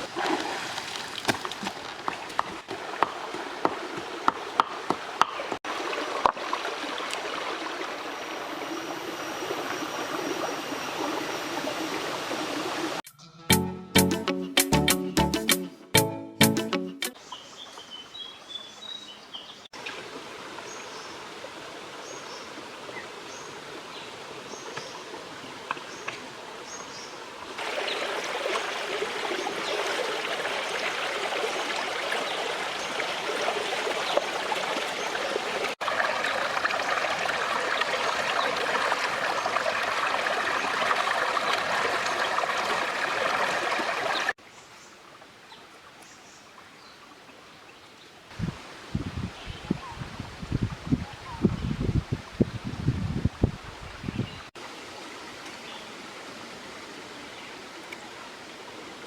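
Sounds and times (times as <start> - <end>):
stream water flowing: 0.0 - 13.0, 17.2 - 49.0, 53.2 - 59.0.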